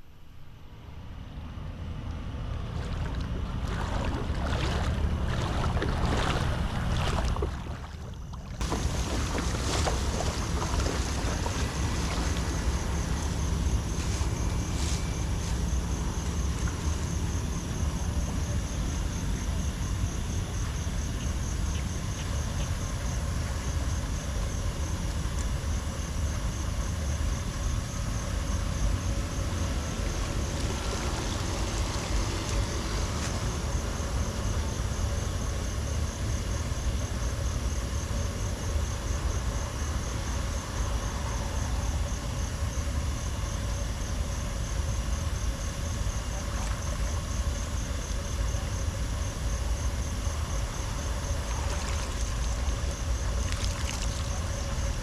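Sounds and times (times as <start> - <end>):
high rapid insect trill: 3.6 - 55.0.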